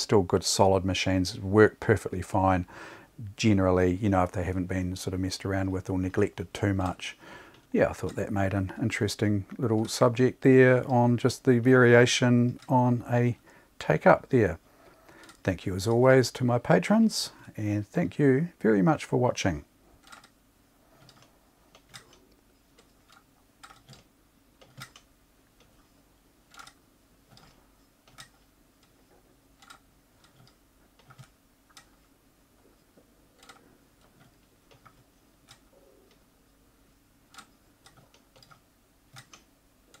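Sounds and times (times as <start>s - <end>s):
low steady hum: 0.0s - 40.0s.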